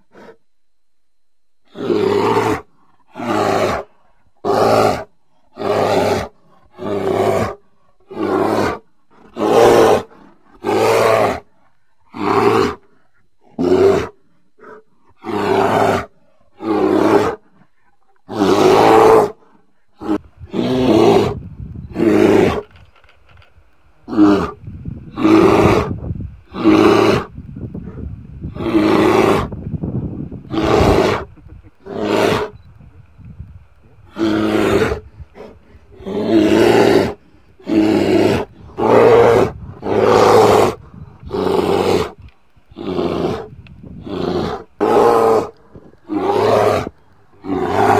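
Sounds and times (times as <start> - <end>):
bear roaring and growling: 1.7 - 11.5, 12.1 - 12.9, 13.5 - 17.5, 18.2 - 19.4, 20.0 - 22.7, 24.0 - 32.6, 33.9 - 47.9.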